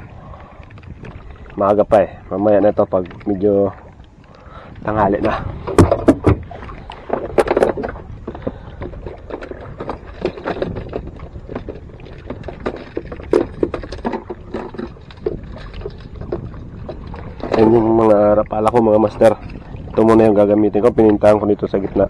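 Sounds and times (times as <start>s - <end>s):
boat engine rumble: 0.0s - 22.0s.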